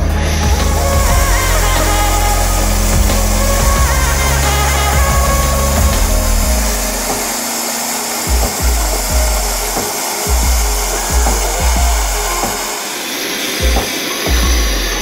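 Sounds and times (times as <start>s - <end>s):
music with thumping beat: 0.0s - 12.7s, 13.6s - 15.0s
gas torch flame hissing: 0.0s - 15.0s.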